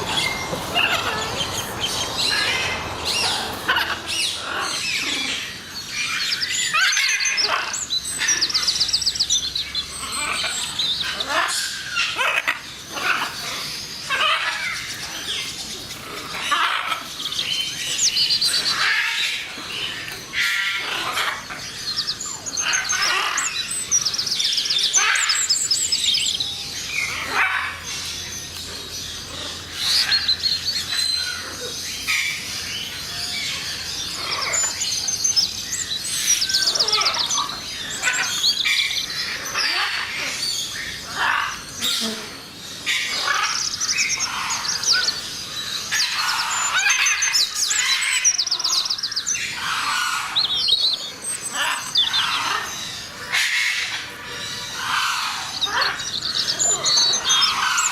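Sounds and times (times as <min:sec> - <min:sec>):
birds chirping and trilling: 0:00.0 - 0:57.9.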